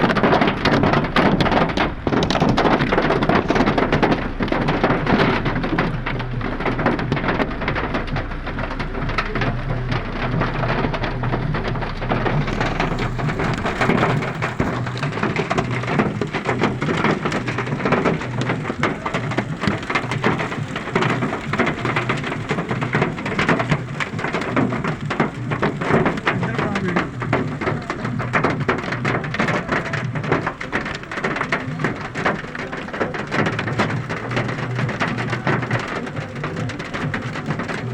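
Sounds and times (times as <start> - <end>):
hailstones striking a car: 0.0 - 37.9.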